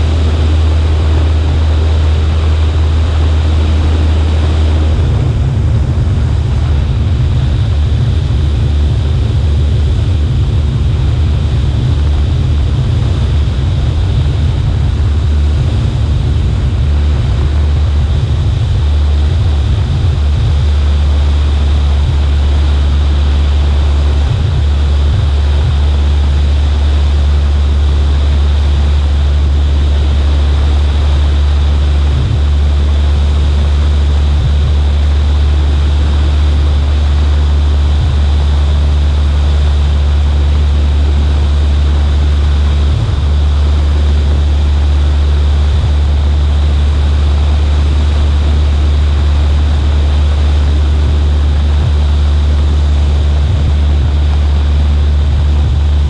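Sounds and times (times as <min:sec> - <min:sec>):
light aircraft engine drone: 0:00.0 - 0:56.0
wind rushing over microphone: 0:00.0 - 0:56.0.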